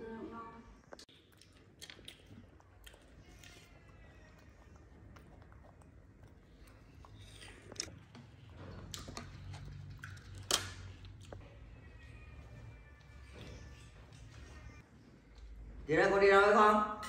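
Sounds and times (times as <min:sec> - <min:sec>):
faint chewing: 0:00.8 - 0:15.8.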